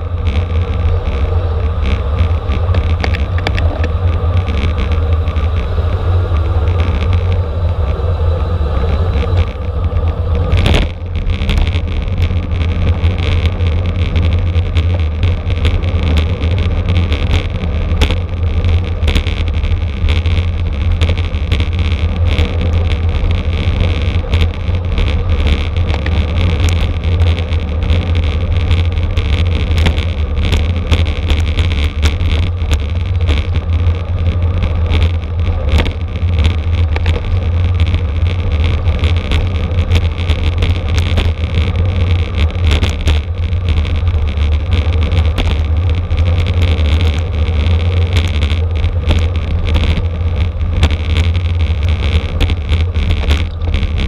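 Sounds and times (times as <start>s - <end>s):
bicycle rattles and clicks: 0.0s - 54.0s
wind buffeting microphone: 0.0s - 54.0s.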